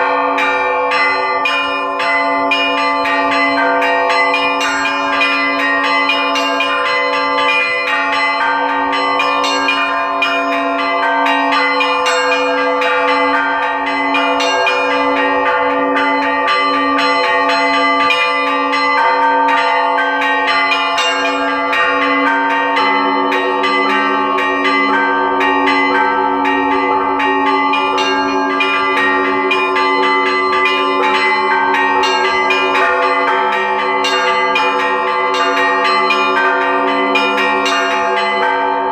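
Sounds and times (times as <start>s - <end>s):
deeper bell ringing: 0.0s - 38.9s.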